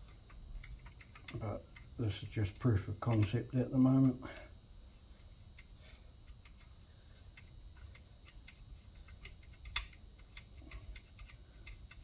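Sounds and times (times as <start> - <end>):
small parts clicking and tapping: 0.0 - 4.5, 5.5 - 12.0.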